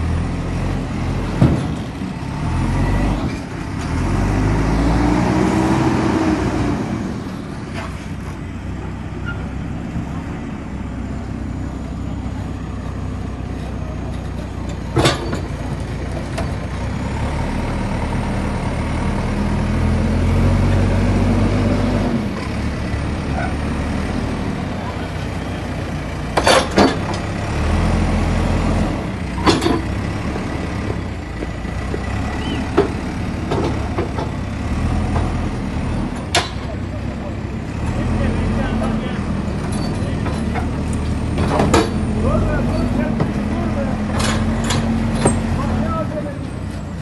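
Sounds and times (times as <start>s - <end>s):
heavy vehicle engine running: 0.0s - 47.0s.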